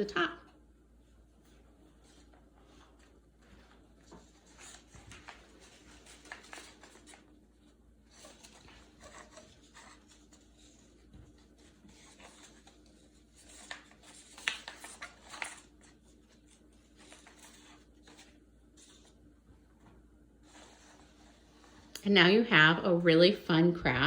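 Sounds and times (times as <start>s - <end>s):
paper and string rustling: 1.4s - 22.0s.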